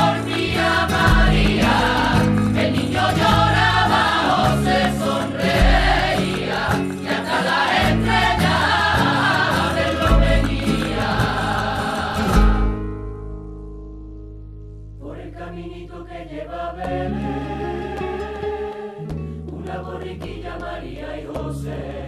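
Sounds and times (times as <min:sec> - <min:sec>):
choir singing: 0:00.0 - 0:12.9, 0:15.0 - 0:22.0.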